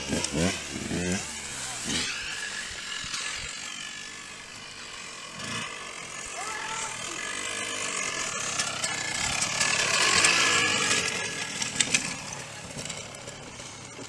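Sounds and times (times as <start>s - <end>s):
dirt bike engine passing: 0.0s - 14.0s.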